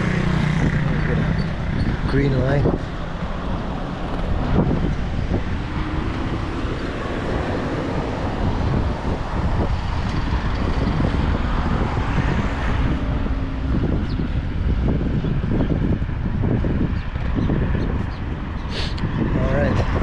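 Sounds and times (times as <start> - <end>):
road traffic passing: 0.0 - 20.0
wind buffeting microphone: 0.0 - 20.0.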